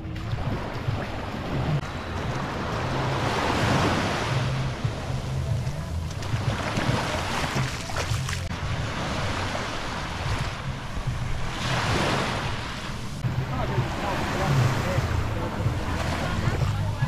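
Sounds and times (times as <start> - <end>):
waves washing on beach: 0.0 - 17.0.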